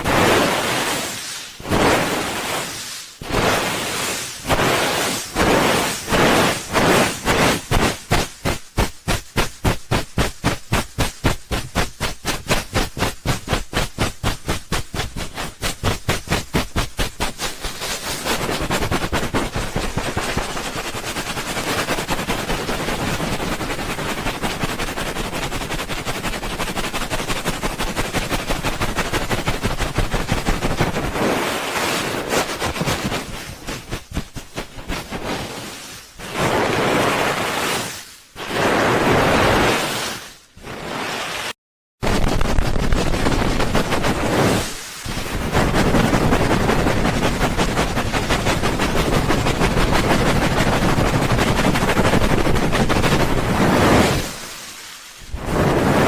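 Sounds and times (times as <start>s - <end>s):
hands rubbing over microphone: 0.0s - 41.5s, 42.3s - 56.0s.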